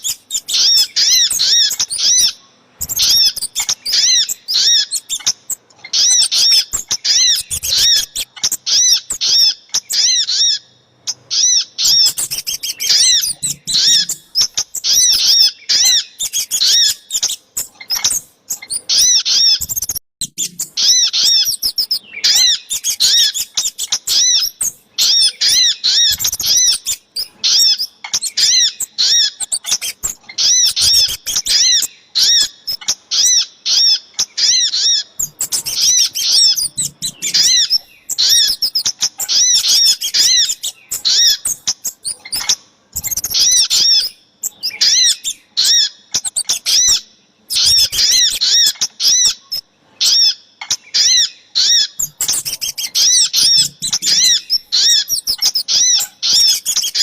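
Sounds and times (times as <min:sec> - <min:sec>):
rapid high bird chirps: 0:00.0 - 0:57.0.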